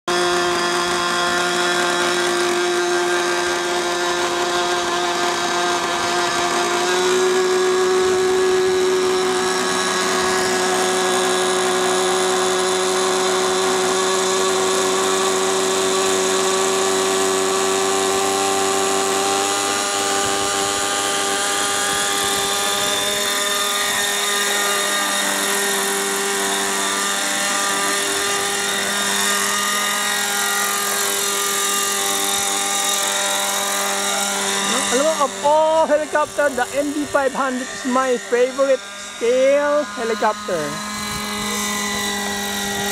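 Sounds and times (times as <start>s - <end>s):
model helicopter high whine: 0.1s - 42.9s.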